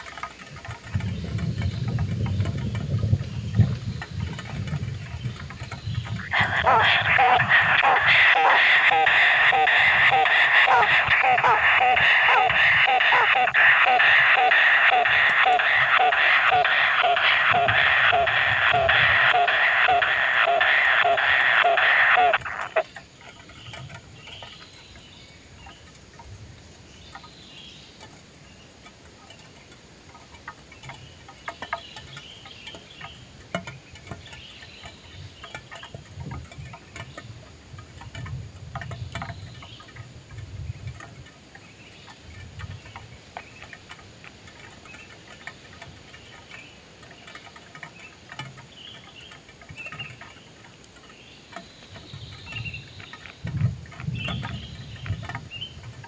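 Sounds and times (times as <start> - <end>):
low rumbles: 0.0 - 27.7, 28.3 - 56.0
faint ticks: 0.0 - 56.0
nestlings chirping: 5.0 - 26.1, 26.8 - 36.0, 38.8 - 55.8.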